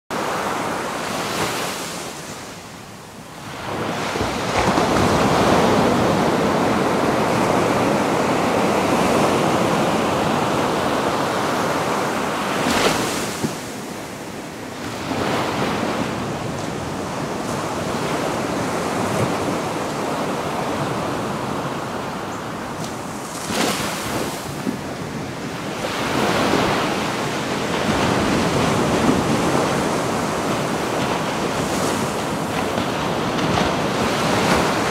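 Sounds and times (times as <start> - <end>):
ocean waves breaking on beach: 0.1 - 34.9.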